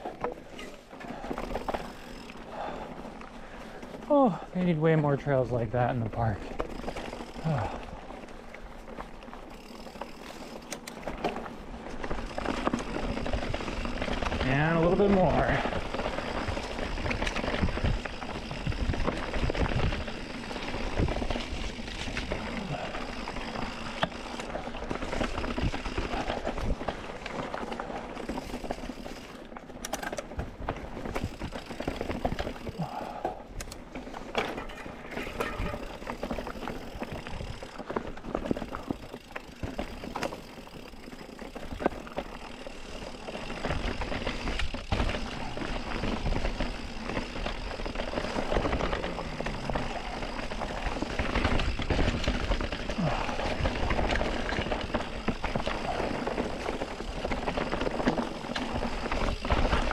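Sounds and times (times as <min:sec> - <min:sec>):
bike clicks and rattles over bumps: 0:00.0 - 0:59.9
mountain bike tyres rolling on dirt: 0:00.0 - 0:59.9.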